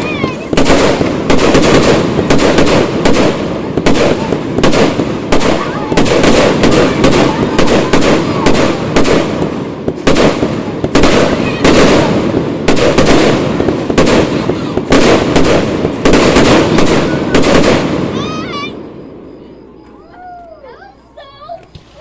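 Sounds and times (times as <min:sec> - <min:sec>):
fireworks bangs: 0:00.0 - 0:22.0
fireworks crackle: 0:00.0 - 0:22.0.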